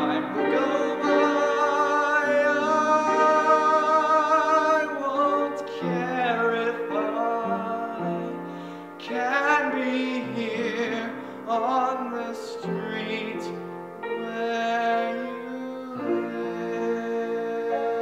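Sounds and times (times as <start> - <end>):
man singing with vibrato: 0.0 - 18.0
piano accompaniment: 0.0 - 18.0.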